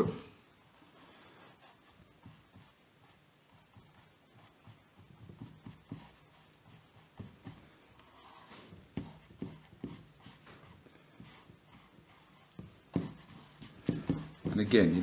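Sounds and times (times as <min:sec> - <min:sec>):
paintbrush scratching on canvas: 0:00.8 - 0:15.0.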